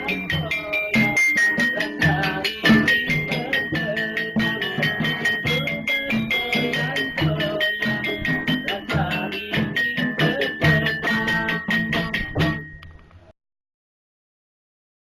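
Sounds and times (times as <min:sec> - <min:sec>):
music with percussion and melody: 0:00.0 - 0:13.3.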